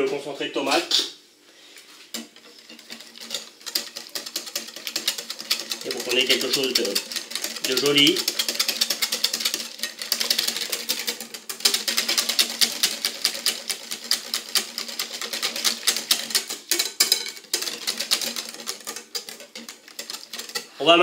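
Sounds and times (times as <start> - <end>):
whisk clicking against glass bowl: 2.2 - 20.8.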